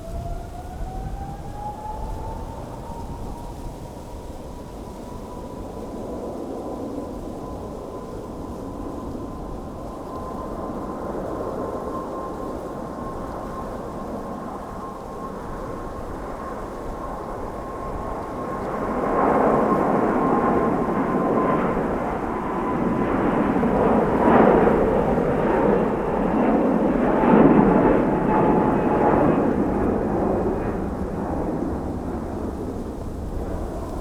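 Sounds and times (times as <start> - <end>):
jet airliner engines rumbling: 0.0 - 34.0.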